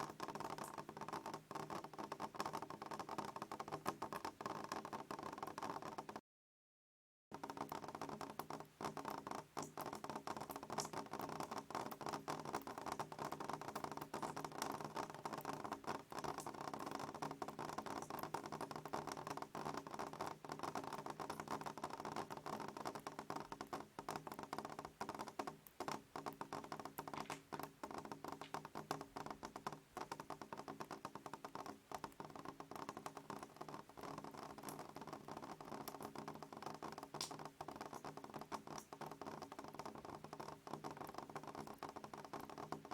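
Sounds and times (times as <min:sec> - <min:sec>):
rain pattering: 0:00.0 - 0:06.2, 0:07.4 - 0:42.9.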